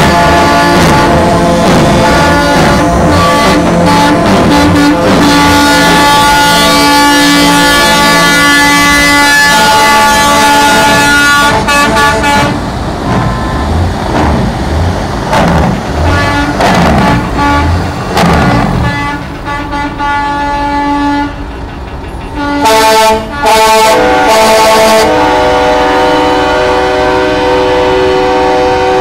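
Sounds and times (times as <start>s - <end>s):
truck air horns blaring: 0.0s - 14.5s, 15.6s - 21.5s, 22.4s - 29.0s
diesel engines revving: 0.0s - 29.0s.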